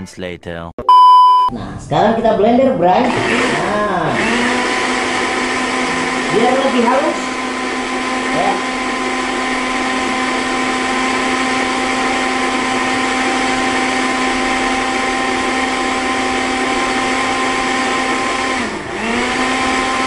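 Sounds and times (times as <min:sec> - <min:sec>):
electric blender whining: 0:02.8 - 0:20.0.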